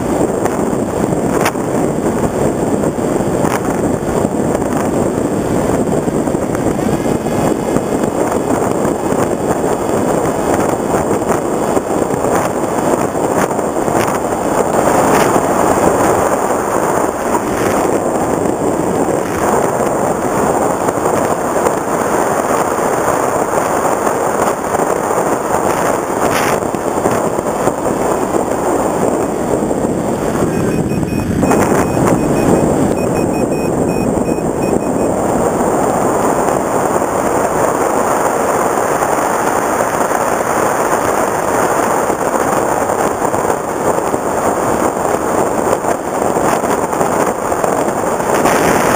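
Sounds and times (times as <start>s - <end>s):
electric motor and propeller whine: 0.0s - 48.9s
wind rushing: 0.0s - 48.9s.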